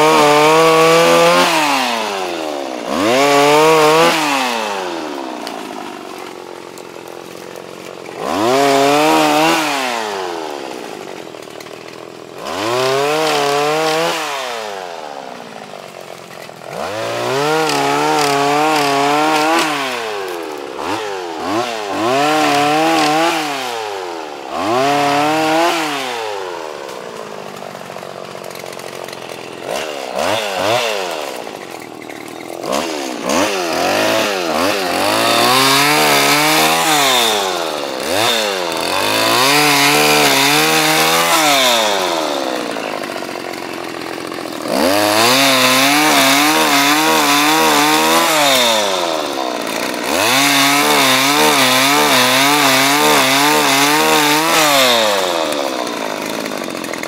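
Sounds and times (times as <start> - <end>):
pole pruner engine revving: 0.0 - 57.0.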